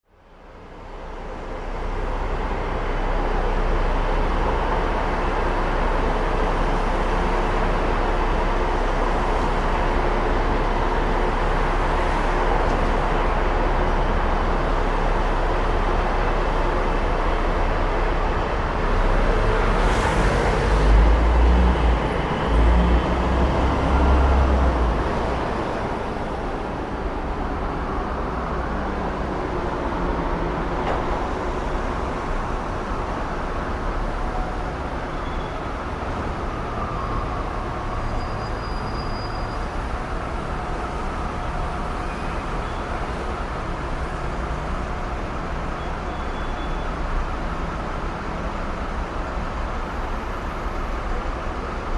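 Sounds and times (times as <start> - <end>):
large vehicle rumbling past: 1.8 - 51.9.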